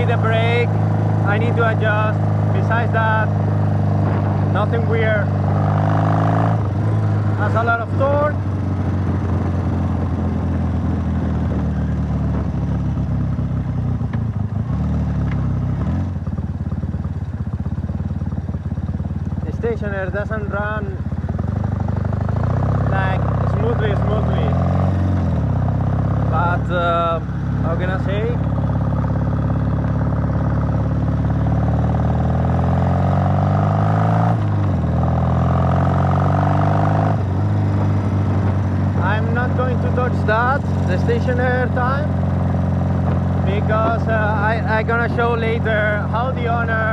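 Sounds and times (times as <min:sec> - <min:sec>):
motorcycle engine revving and idling: 0:00.0 - 0:46.9.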